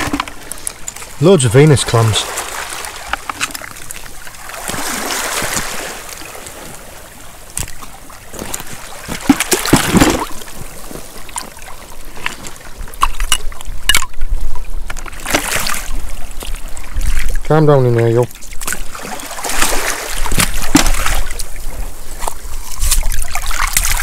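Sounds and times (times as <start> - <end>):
seawater splashing around rocks: 0.0 - 13.9, 15.0 - 24.0.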